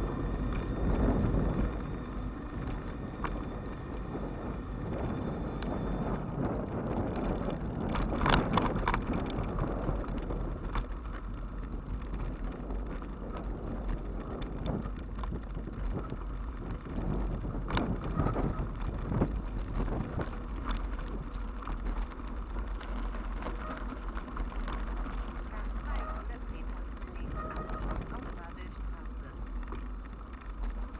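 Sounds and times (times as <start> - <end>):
rumble of bike tyres: 0.0 - 30.9
wind noise: 0.0 - 30.9
bike clicks and knocks: 0.4 - 5.8, 6.4 - 30.9.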